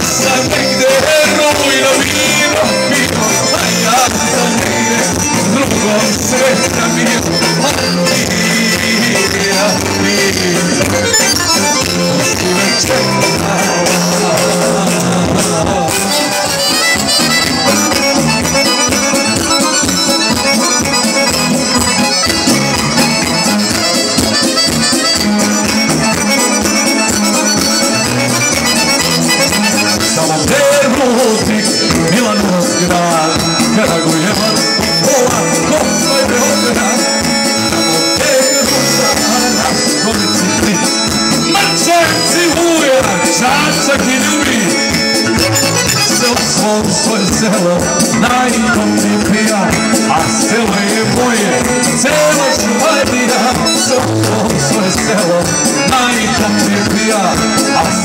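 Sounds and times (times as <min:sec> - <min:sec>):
accordion lead: 0:00.0 - 0:58.0
live folk band playing: 0:00.0 - 0:58.0.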